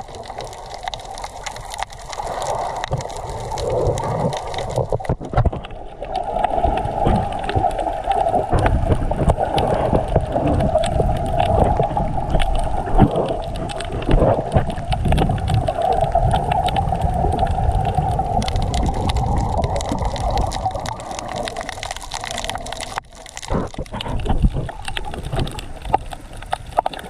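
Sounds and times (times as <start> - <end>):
faint crackling clicks: 0.0 - 27.0
underwater rush of water: 0.0 - 27.0.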